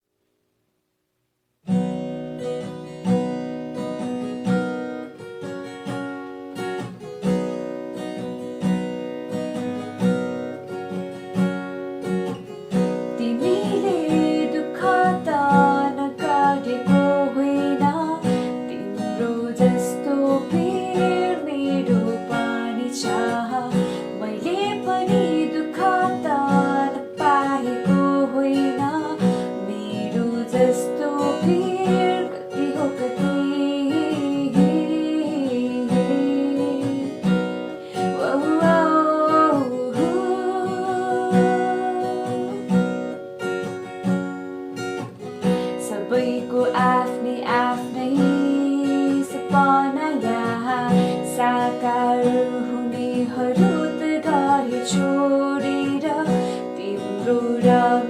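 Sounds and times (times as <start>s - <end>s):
acoustic guitar strumming: 1.6s - 58.0s
guitar melody with sliding notes: 1.7s - 58.0s.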